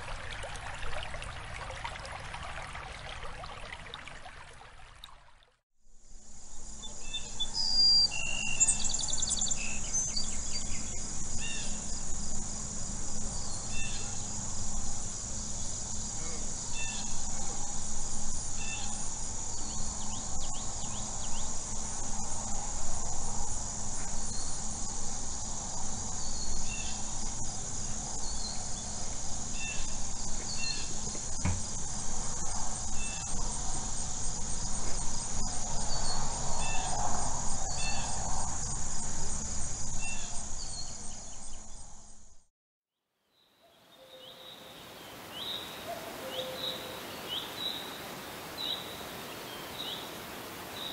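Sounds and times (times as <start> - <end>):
insect chorus: 5.9 - 42.4, 43.3 - 50.9.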